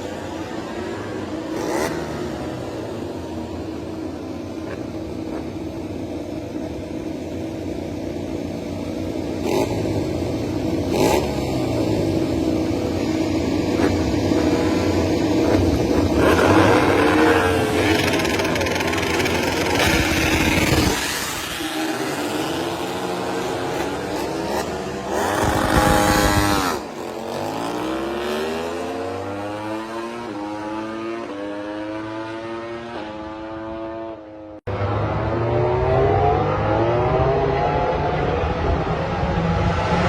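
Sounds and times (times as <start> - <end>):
motorcycle engine revving: 0.0 - 7.6, 8.3 - 40.0.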